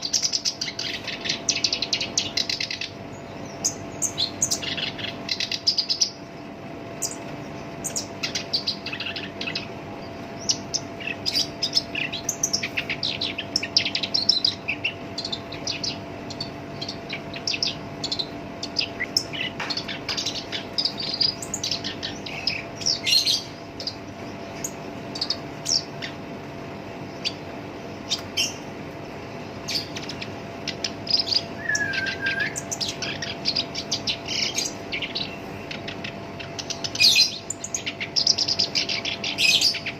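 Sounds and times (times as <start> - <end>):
faint steady hum: 0.0 - 39.9
warbler singing: 0.0 - 39.9.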